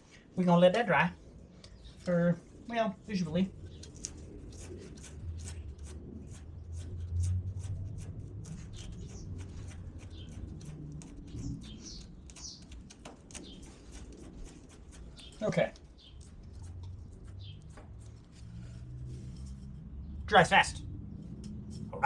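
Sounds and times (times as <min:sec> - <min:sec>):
low steady hum: 0:00.0 - 0:22.0
birds chirping: 0:00.4 - 0:22.0.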